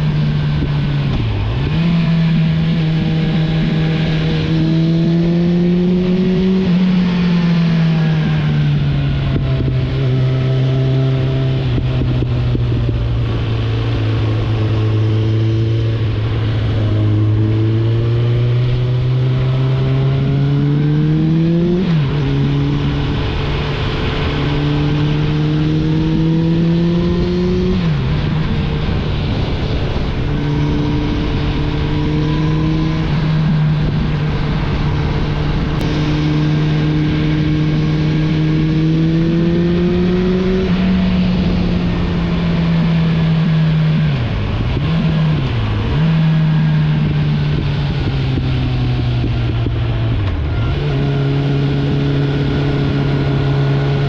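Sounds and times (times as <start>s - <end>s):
motorcycle engine accelerating: 0.0s - 54.0s
wind and road rush: 0.0s - 54.0s.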